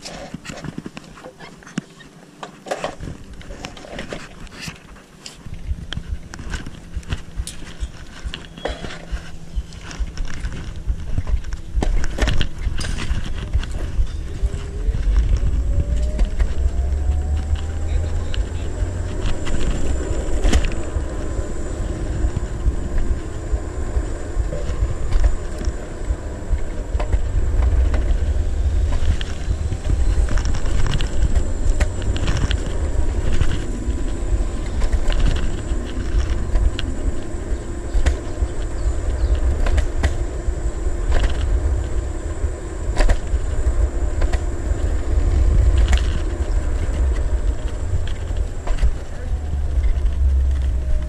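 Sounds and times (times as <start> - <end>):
clicks and rattles over bumps: 0.0 - 51.0
scooter tyre noise on asphalt: 0.0 - 51.0
wind rumble on microphone: 0.0 - 51.0.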